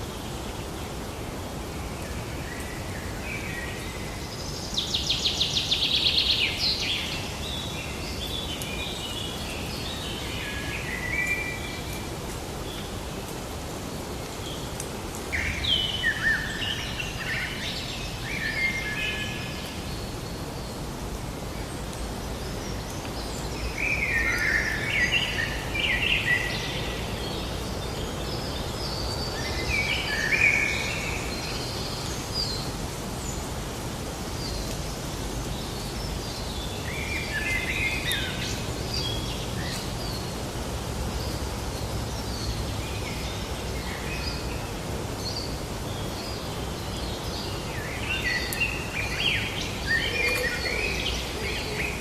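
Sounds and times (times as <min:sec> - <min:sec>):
steady outdoor hiss: 0:00.0 - 0:52.0.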